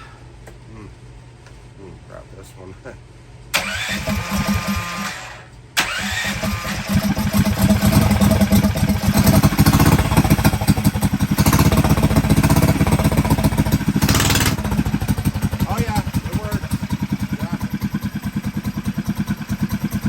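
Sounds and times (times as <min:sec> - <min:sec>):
mini bike engine revving: 0:03.6 - 0:20.0.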